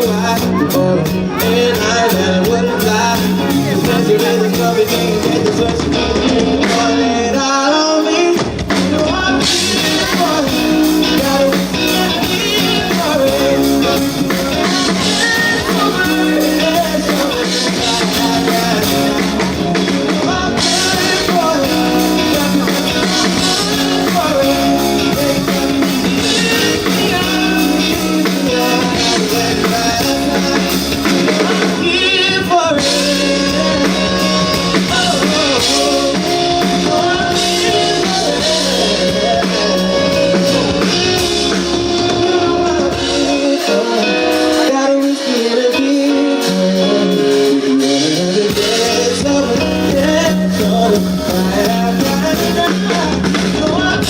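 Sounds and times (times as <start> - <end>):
live pop-rock band playing: 0.0 - 54.0
person singing: 0.0 - 54.0.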